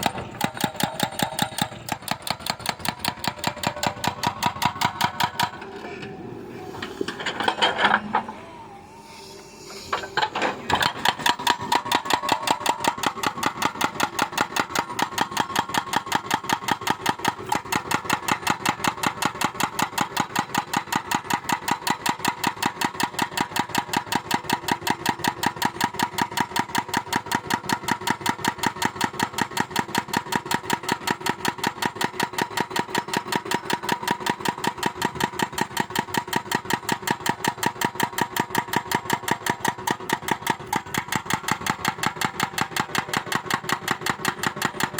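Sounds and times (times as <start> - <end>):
excavator engine idling: 0.0 - 44.9.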